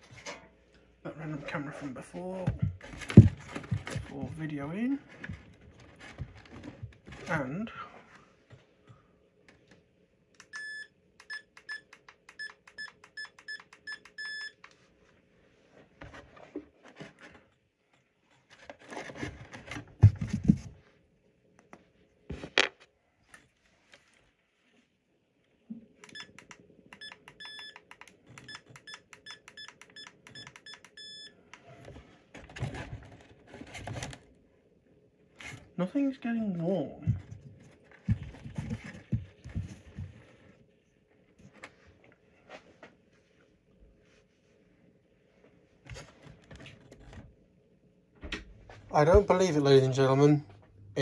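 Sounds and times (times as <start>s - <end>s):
faint electrical hum: 0.0s - 51.0s.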